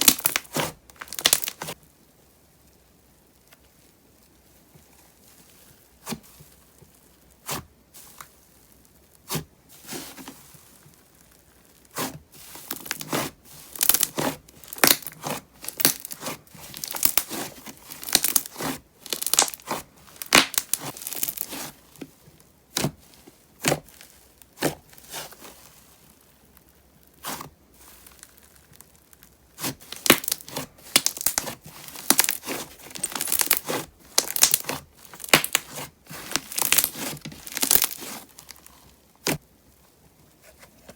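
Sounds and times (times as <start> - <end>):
slime crunchy crackling: 0.0 - 1.9, 3.2 - 39.8.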